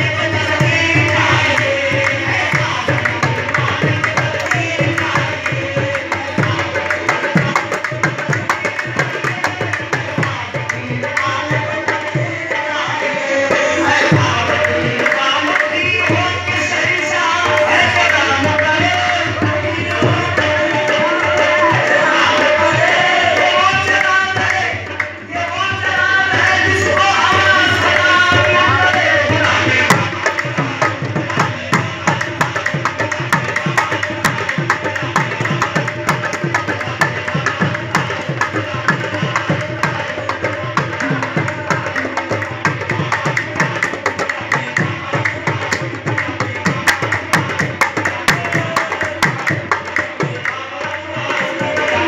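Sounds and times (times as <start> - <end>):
harmonium: 0.0 - 52.0
person singing: 0.0 - 52.0
tabla rhythm: 0.0 - 52.0.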